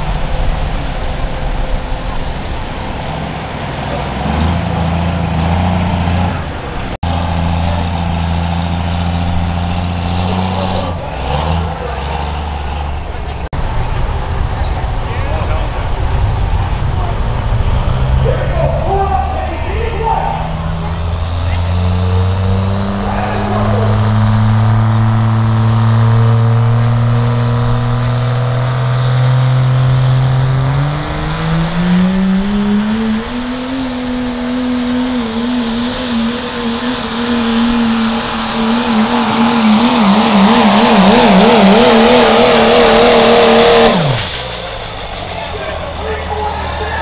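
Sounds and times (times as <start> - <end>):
diesel truck engine revving: 0.0 - 47.0.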